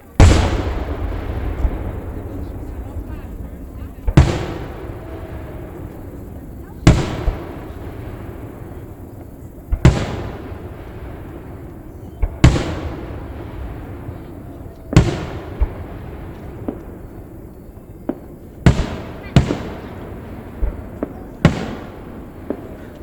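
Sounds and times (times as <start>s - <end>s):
firework shells booming: 0.0s - 23.0s
lighter firework bangs: 0.0s - 23.0s.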